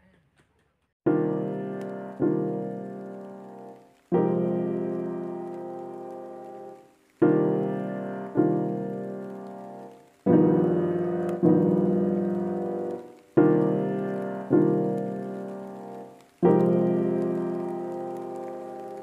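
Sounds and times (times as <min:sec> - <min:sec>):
slow piano chords: 0:01.1 - 0:19.0.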